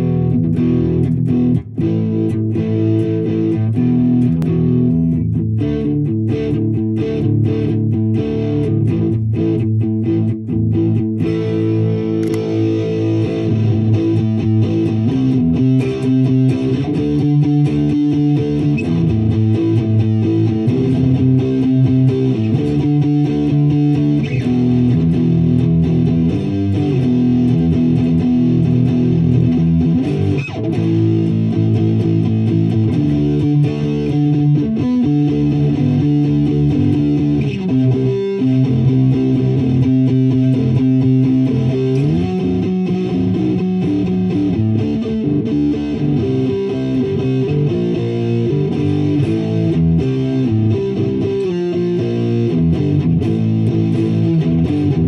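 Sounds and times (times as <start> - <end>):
overdriven electric guitar: 0.0 - 55.0.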